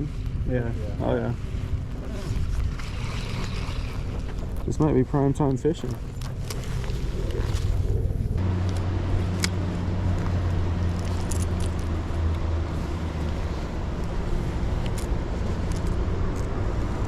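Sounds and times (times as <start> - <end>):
wind: 0.0 - 17.0
water noise: 1.4 - 17.0.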